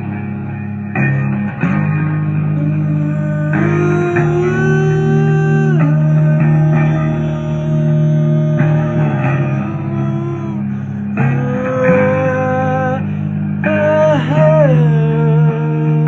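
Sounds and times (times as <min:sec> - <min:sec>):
guitar with bending notes: 0:00.0 - 0:16.0
steady bass line: 0:00.0 - 0:16.0.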